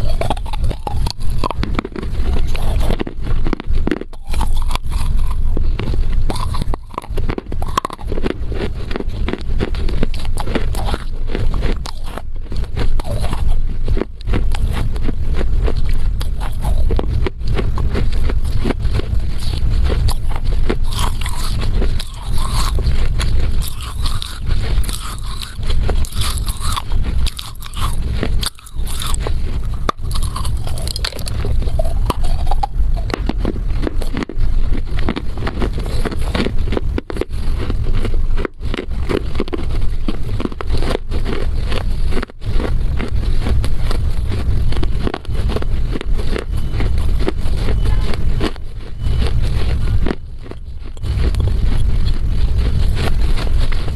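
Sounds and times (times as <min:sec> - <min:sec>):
crunching clay being chewed: 0:00.0 - 0:53.9
steady low rumble: 0:00.0 - 0:53.9.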